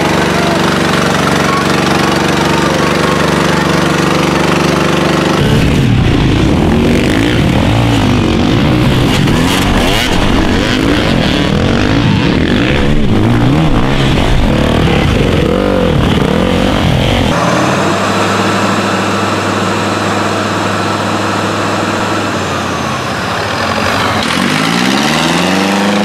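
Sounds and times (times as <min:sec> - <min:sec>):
steady engine note: 0:00.0 - 0:26.0
tractor engine revving: 0:00.0 - 0:26.0.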